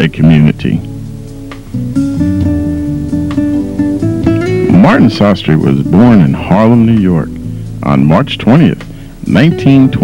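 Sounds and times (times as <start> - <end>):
guitar playing chords: 0.0 - 10.0.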